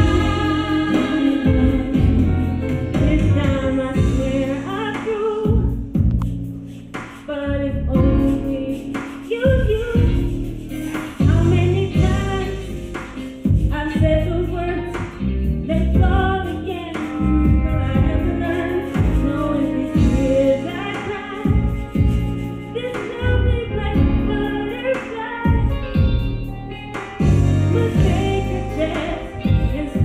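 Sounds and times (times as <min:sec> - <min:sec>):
woman singing into microphone: 0:00.0 - 0:06.1, 0:07.2 - 0:26.4, 0:27.2 - 0:30.0
karaoke backing track: 0:00.0 - 0:30.0.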